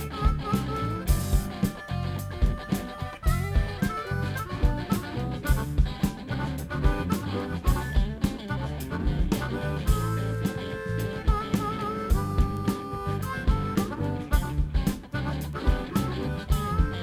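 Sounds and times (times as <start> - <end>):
blues-rock band playing: 0.0 - 17.0
drums steady beat: 0.0 - 17.0
electric guitar lead notes: 0.0 - 17.0.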